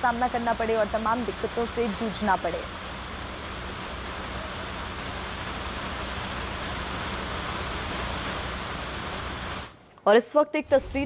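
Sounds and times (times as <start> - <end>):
rain hissing: 0.0 - 9.8.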